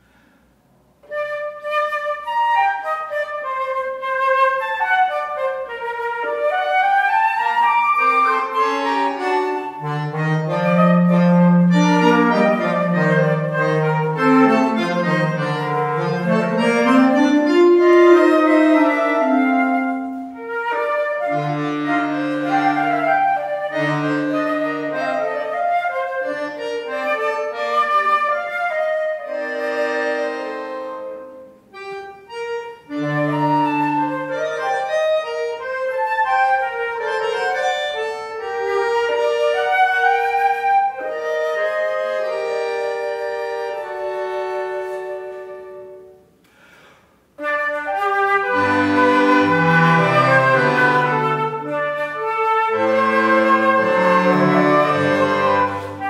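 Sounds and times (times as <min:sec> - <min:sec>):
bass clarinet: 0:00.9 - 0:56.0
flute: 0:01.0 - 0:46.2, 0:47.4 - 0:56.0
accordion: 0:01.0 - 0:46.5, 0:47.4 - 0:56.0.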